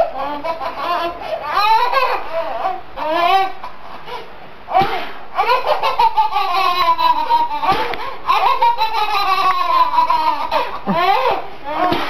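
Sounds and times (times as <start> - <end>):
babies belly-laughing: 0.0 - 12.0.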